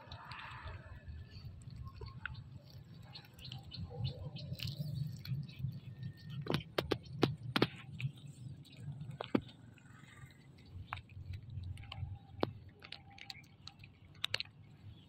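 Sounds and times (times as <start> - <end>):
kittens chewing: 0.0 - 15.0
small clicks: 1.7 - 15.0.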